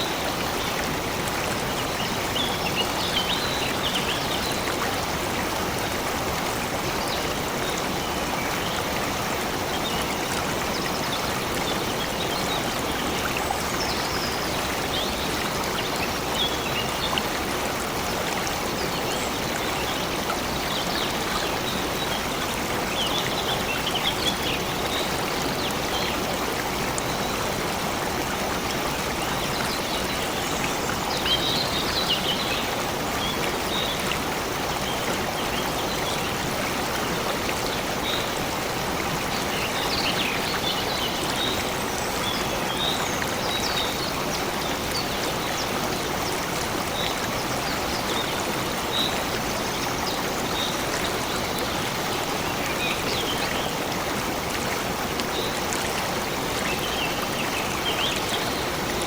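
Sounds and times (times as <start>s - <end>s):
stream rushing and trickling: 0.0s - 59.0s.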